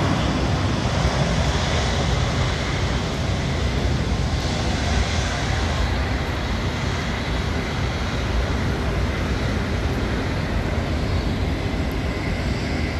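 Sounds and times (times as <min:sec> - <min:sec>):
jet engine rumble: 0:00.0 - 0:12.9.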